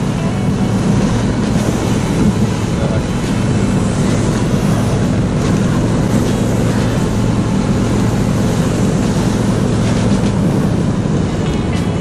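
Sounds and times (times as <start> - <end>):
rushing over snow: 0.0 - 12.0.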